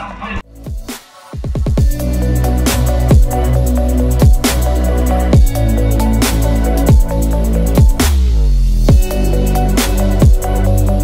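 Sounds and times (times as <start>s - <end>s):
electronic music: 0.4s - 11.0s
heavy bass: 0.4s - 11.0s.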